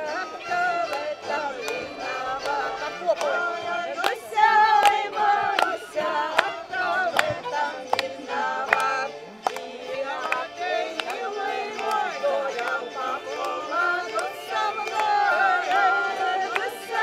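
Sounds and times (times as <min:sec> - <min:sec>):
group singing folk song: 0:00.0 - 0:17.0.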